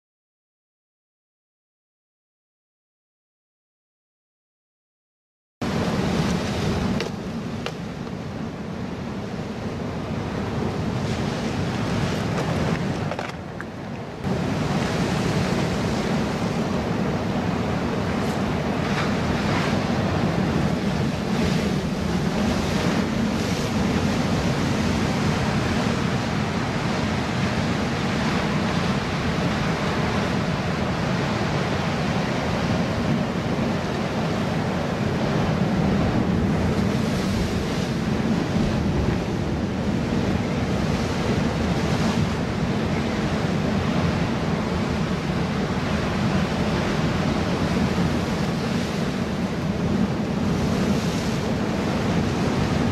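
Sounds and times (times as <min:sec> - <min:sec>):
ocean surf breaking over rocks: 0:05.6 - 0:52.9
wind buffeting microphone: 0:05.6 - 0:52.9.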